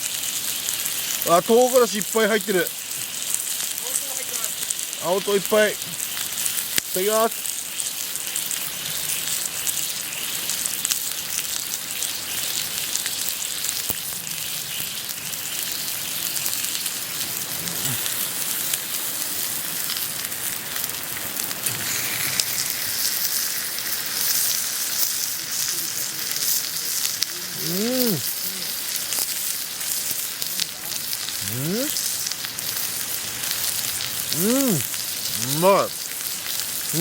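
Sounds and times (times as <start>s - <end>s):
pork frying sizzling: 0.0s - 37.0s.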